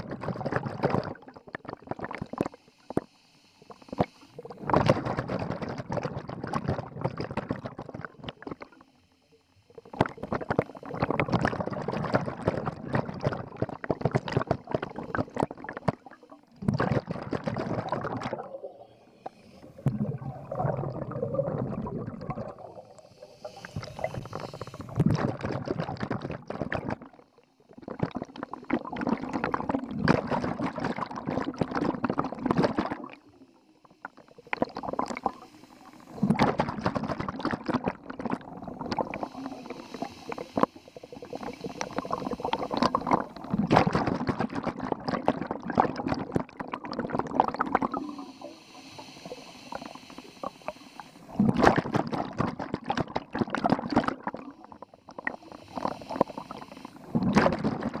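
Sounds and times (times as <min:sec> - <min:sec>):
diver's exhaled bubbles gurgling: 0:00.0 - 0:02.6, 0:03.7 - 0:08.8, 0:09.7 - 0:58.0.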